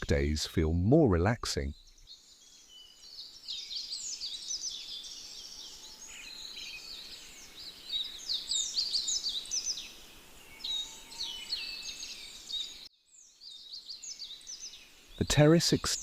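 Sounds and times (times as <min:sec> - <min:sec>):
birds singing: 0:01.6 - 0:16.0.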